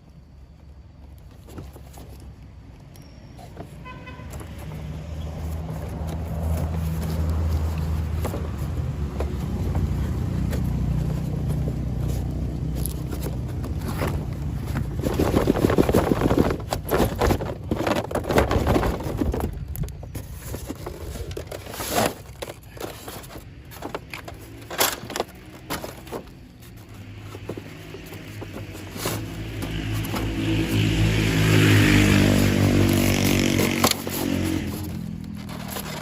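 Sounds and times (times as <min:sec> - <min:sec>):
clicking and scraping: 0:01.0 - 0:36.0.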